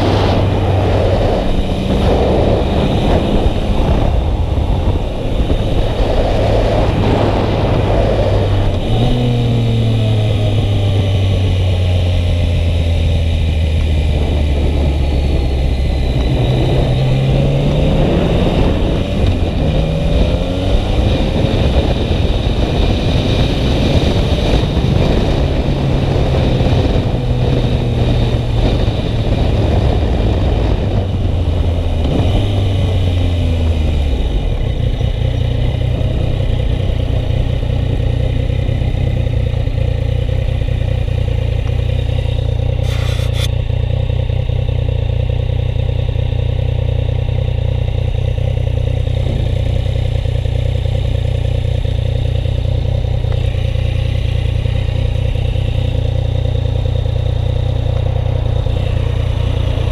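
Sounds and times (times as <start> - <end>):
steady rushing noise: 0.0 - 43.6, 48.7 - 59.9
motorcycle engine accelerating: 0.0 - 59.9.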